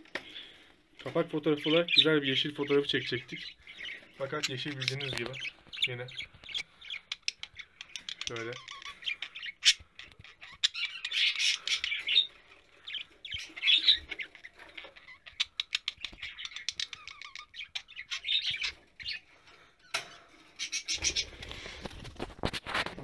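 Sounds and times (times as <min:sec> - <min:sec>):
budgerigar squawking and chattering: 0:01.6 - 0:19.3, 0:20.6 - 0:21.4.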